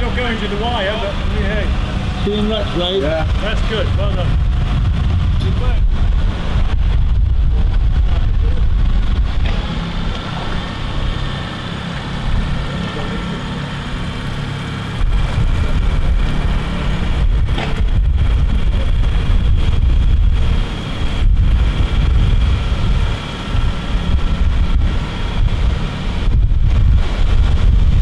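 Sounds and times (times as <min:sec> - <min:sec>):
outboard motor running: 0:00.0 - 0:28.0
wind rumbling on microphone: 0:00.0 - 0:28.0.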